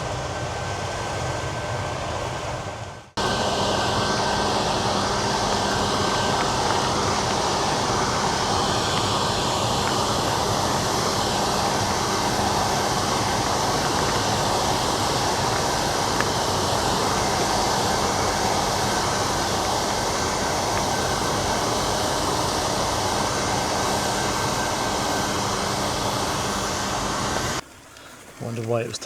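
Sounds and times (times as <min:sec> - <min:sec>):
combine harvester running: 0:00.0 - 0:27.6.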